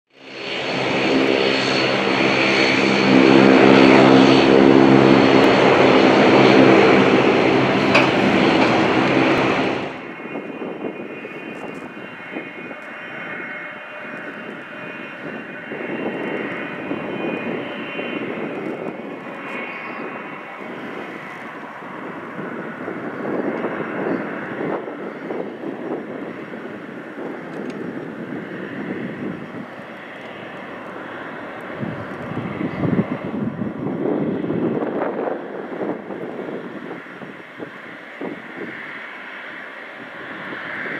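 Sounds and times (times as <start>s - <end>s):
jet engines whining at taxi: 0.1s - 40.9s.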